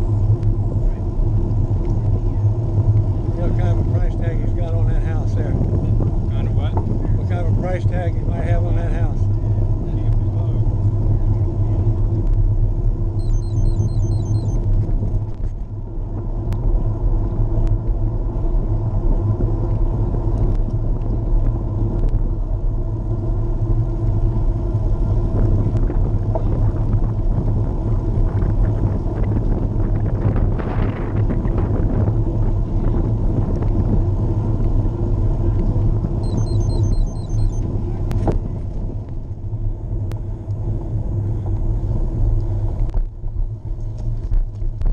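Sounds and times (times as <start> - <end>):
tyres humming on pavement: 0.0 - 44.9
wind rumble on microphone: 0.0 - 44.9.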